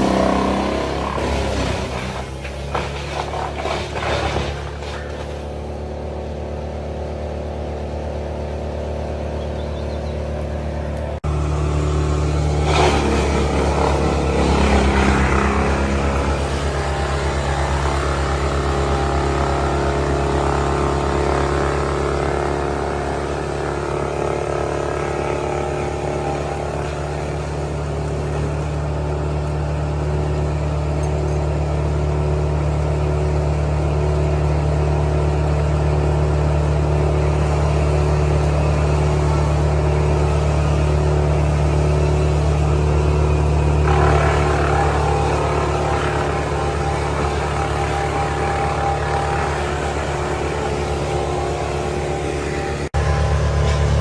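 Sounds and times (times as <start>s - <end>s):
large engine running: 0.0s - 54.0s.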